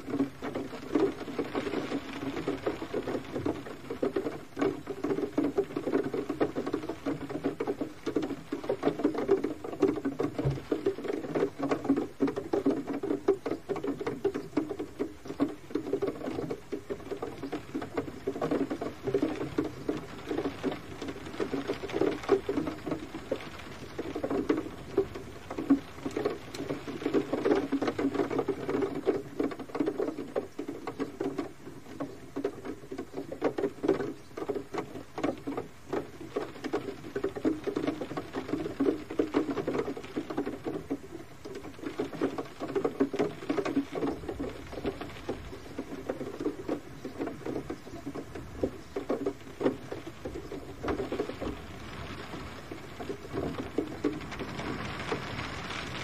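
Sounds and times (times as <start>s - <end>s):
gentle rain patter: 0.0s - 56.0s.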